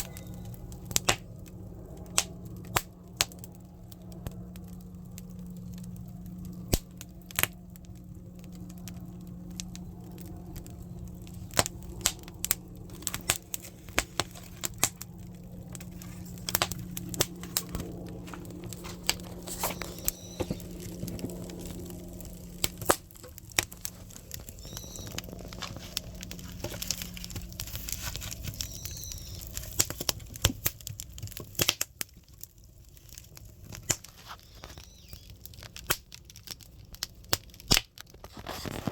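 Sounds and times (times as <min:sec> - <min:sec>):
low steady hum: 0:00.0 - 0:37.6
firewood crackling and popping: 0:00.0 - 0:38.9.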